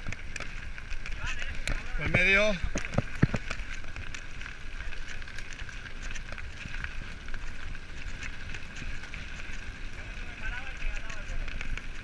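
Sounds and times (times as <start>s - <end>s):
bike clicks and rattles: 0.0s - 12.0s
bike tyres on gravel: 0.0s - 12.0s
wind rumbling on microphone: 0.0s - 12.0s.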